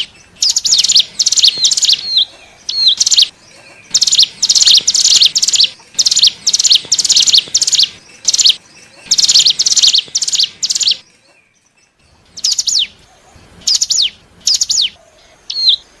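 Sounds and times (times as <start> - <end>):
bird buzzy chirps: 0.0 - 16.0.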